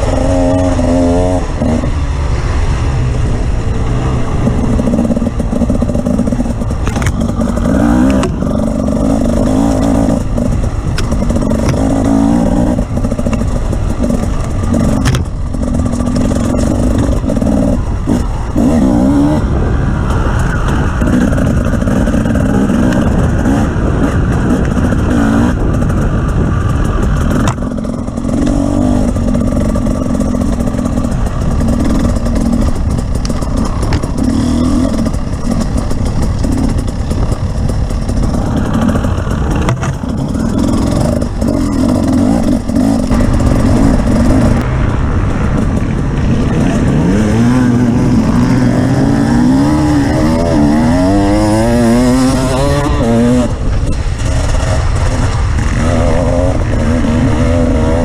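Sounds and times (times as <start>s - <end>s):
heavy low rumble: 0.0s - 58.0s
off-road vehicle engine revving: 0.0s - 58.0s.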